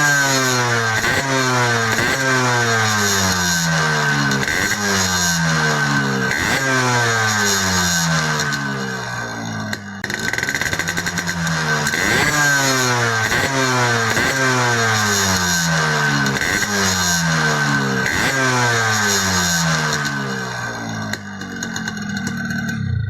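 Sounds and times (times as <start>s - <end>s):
two-stroke motorbike engine revving: 0.0s - 23.0s.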